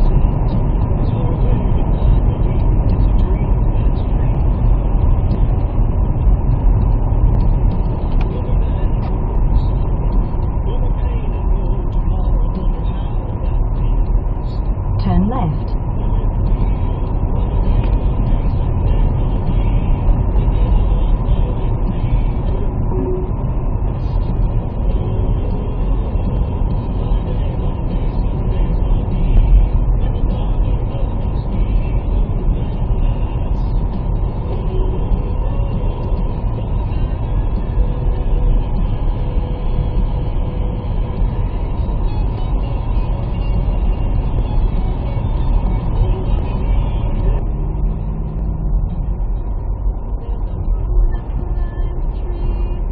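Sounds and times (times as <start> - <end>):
car interior rumble: 0.0 - 52.9.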